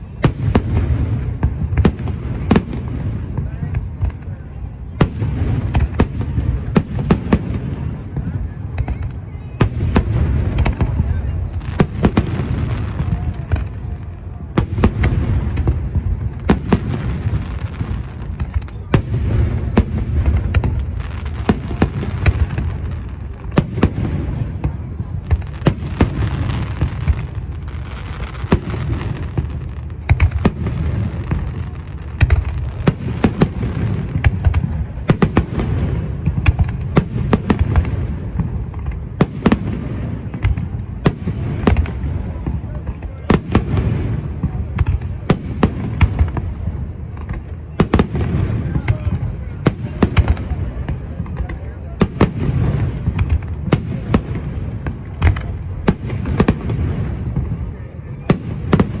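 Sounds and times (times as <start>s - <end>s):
fireworks booming and crackling: 0.0s - 59.0s.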